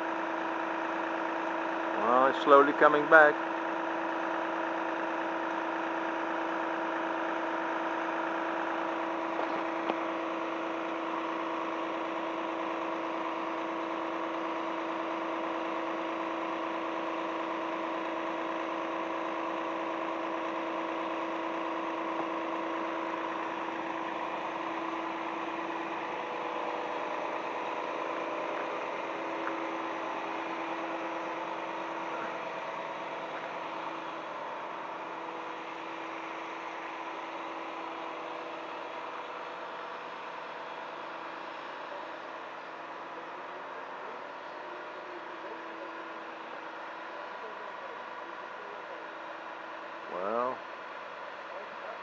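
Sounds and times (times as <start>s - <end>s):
diesel engine humming: 0.0s - 52.0s.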